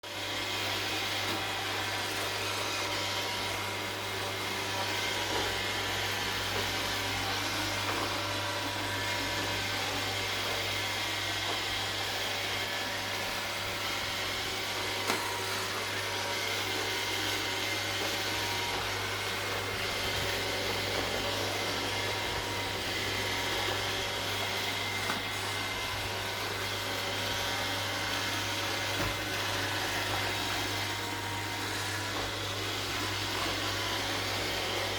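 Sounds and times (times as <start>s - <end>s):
robot vacuum motor whir: 0.1s - 34.9s.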